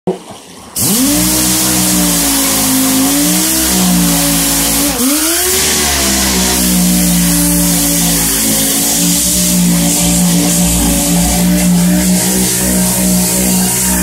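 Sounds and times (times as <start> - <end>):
motor speeding up: 0.8 - 14.0.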